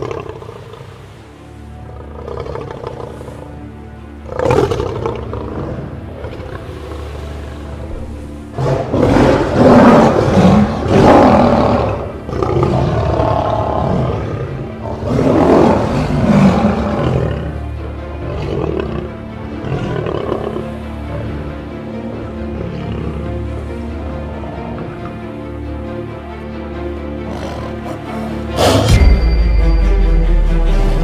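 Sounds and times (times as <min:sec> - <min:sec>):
lion roars and growls: 0:00.0 - 0:01.1, 0:01.8 - 0:03.6, 0:04.2 - 0:25.4, 0:27.2 - 0:29.1
background music: 0:00.0 - 0:31.0.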